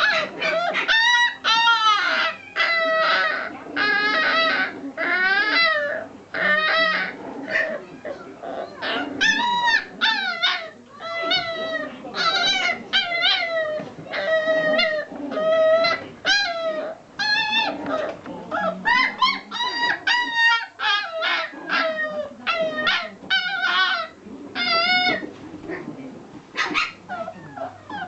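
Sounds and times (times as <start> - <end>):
puppy whining and yipping: 0.0 - 7.1, 8.1 - 25.2, 26.6 - 28.0.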